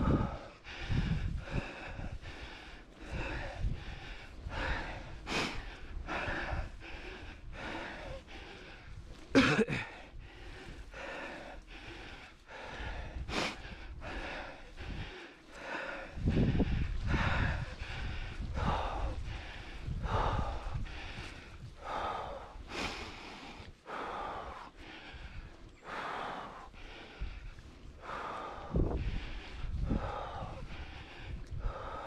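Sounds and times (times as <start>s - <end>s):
cyclist breathing hard: 0.0s - 32.0s.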